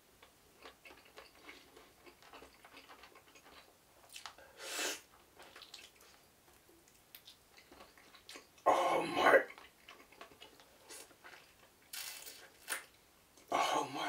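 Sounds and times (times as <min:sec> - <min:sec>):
person chewing: 0:00.2 - 0:08.6, 0:09.4 - 0:13.0.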